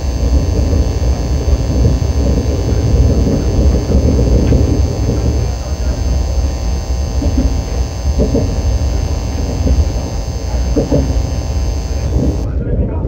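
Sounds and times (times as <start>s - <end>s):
high electrical hum: 0.0s - 12.6s.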